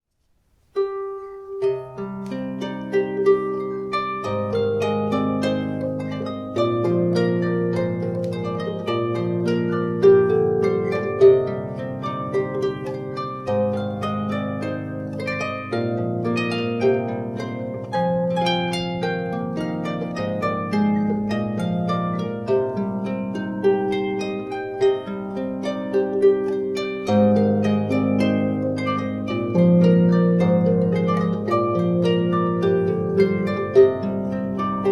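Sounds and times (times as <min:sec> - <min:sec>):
solo harp melody: 0:00.5 - 0:34.9.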